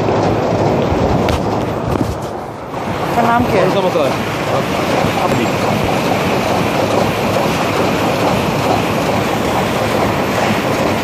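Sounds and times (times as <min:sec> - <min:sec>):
conveyor machinery rattling: 0:00.0 - 0:11.0.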